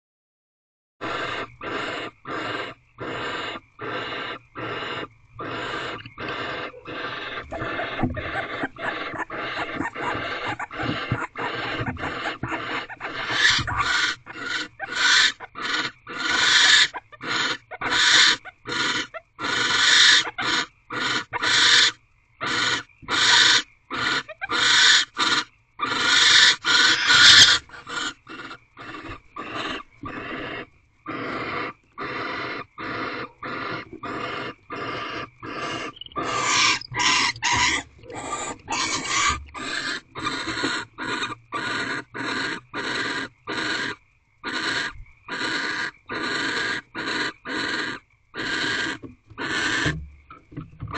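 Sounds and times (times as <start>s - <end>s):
owls hissing: 1.0s - 50.0s.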